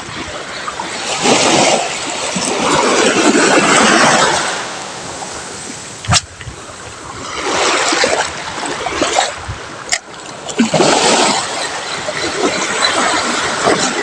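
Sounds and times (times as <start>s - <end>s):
sea water washing on shore: 0.0s - 14.0s.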